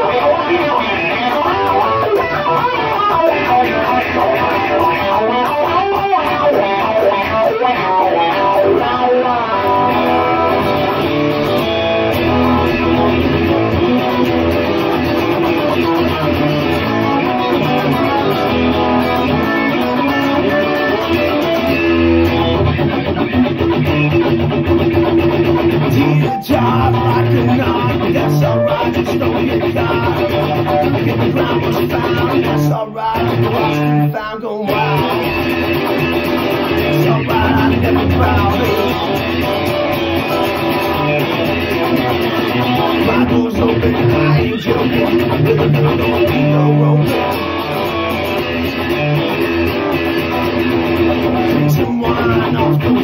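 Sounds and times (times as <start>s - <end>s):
guitar-led music: 0.0s - 53.0s.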